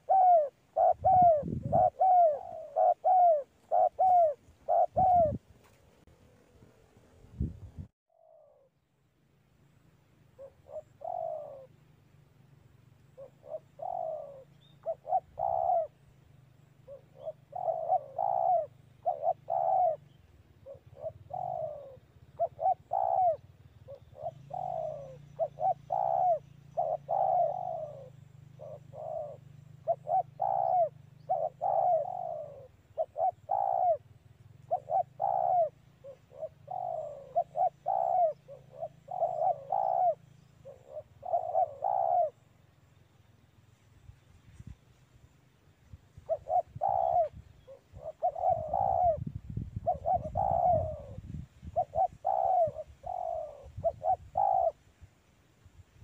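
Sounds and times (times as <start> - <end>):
dove cooing: 0.0 - 7.1, 8.1 - 8.8, 10.2 - 12.0, 12.9 - 42.8, 46.2 - 55.0.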